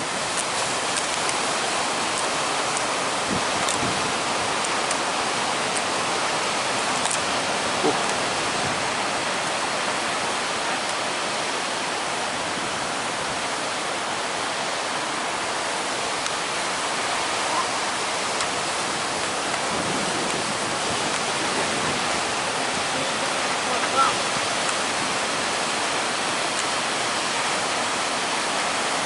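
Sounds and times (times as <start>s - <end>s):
strong onshore wind: 0.0s - 29.0s
surf rushing: 0.0s - 29.0s.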